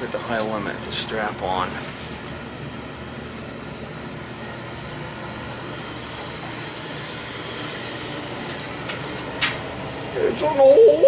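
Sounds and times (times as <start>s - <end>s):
oil burner fan and flame: 0.0s - 11.0s.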